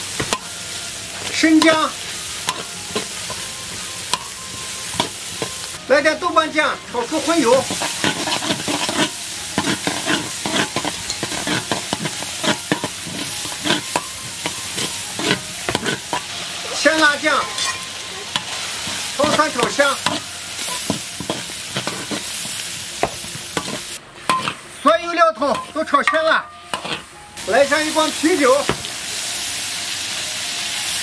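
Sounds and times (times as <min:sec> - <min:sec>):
food sizzling in hot oil: 0:00.0 - 0:31.0
metal spatula scraping a wok: 0:00.1 - 0:05.8, 0:07.0 - 0:24.8, 0:25.4 - 0:27.2.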